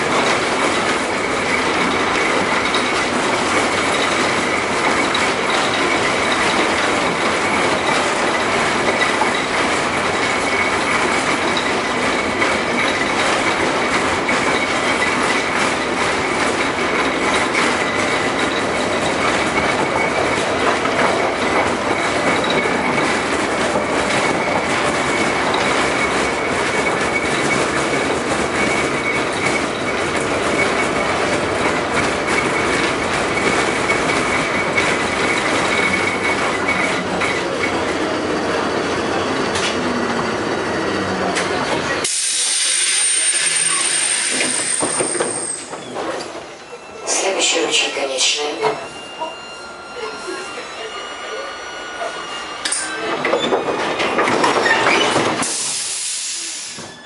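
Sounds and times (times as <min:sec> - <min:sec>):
tram wheels rumbling on rails: 0:00.0 - 0:57.0.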